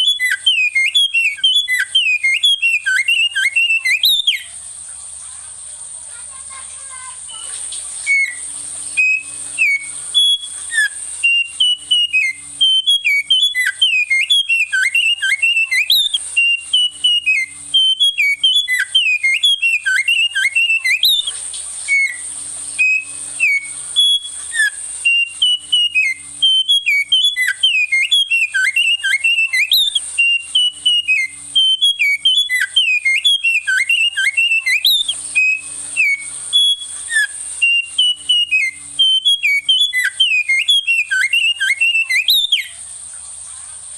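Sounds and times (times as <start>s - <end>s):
songbird singing whistled phrases: 0.0s - 5.6s, 6.2s - 43.9s
thin high tone: 0.0s - 43.9s.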